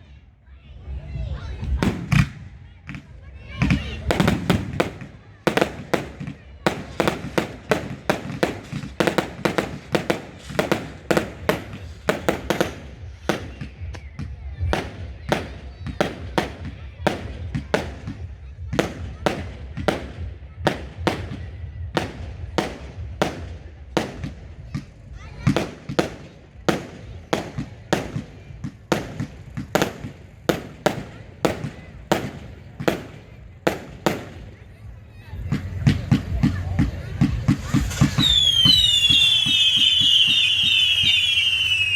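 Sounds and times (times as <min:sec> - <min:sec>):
fireworks bangs: 0:01.4 - 0:41.9.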